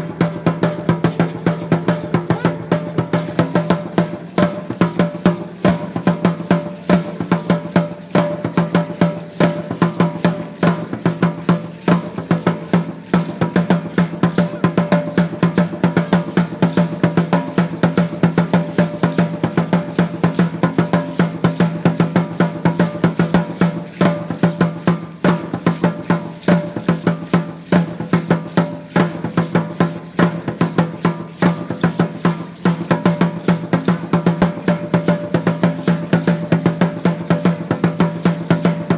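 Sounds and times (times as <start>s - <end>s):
drums beating steady rhythm: 0.0s - 38.9s.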